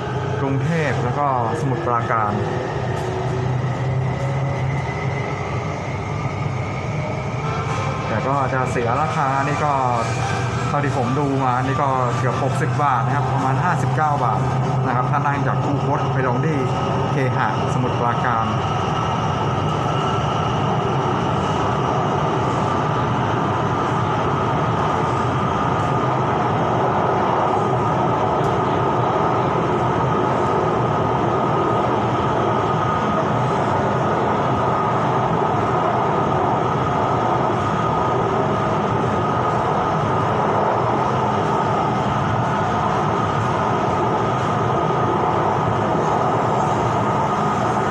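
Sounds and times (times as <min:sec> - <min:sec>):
metro train running noise: 0:00.0 - 0:47.9
steady train whine: 0:00.0 - 0:47.9.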